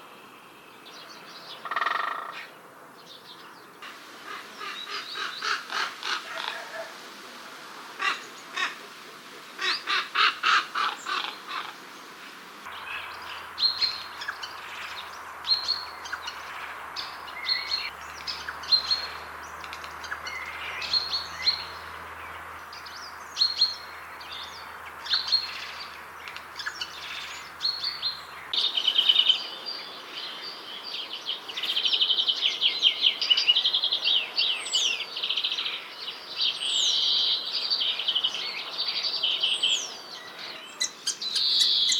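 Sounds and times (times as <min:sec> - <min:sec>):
dense bird twittering: 0:00.0 - 0:06.9, 0:09.6 - 0:41.9
songbird chirps: 0:00.0 - 0:07.0, 0:07.8 - 0:41.9
harsh bird calls: 0:00.8 - 0:06.9, 0:09.6 - 0:41.9.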